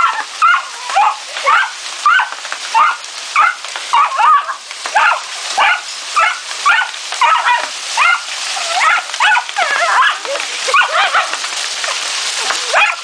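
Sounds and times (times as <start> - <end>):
dog whining and yelping: 0.0 - 11.4, 12.4 - 13.0
hiss of falling hail: 0.0 - 13.0.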